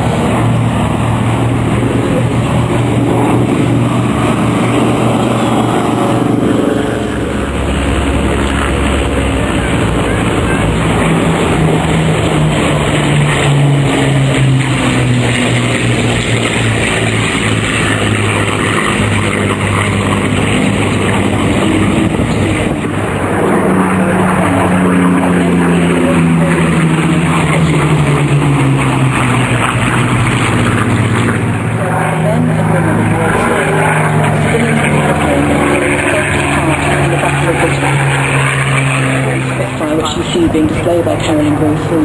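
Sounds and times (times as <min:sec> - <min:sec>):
propeller aircraft flying past: 0:00.0 - 0:42.0.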